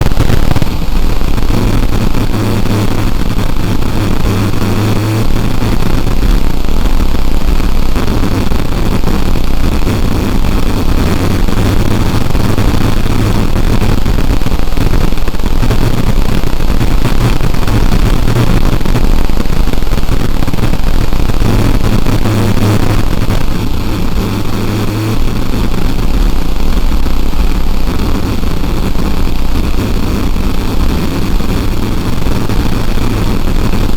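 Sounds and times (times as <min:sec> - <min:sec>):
harsh noise with low rumble: 0:00.0 - 0:33.9.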